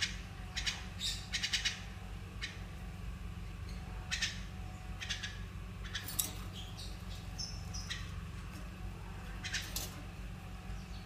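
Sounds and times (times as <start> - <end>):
lovebirds chirping: 0.0 - 11.0
steady low hum: 0.0 - 11.0.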